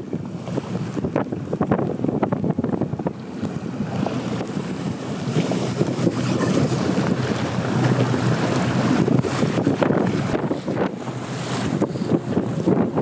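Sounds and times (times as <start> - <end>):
boat running noise: 0.0 - 13.0
rushing water: 0.0 - 13.0
wind buffeting microphone: 0.0 - 13.0.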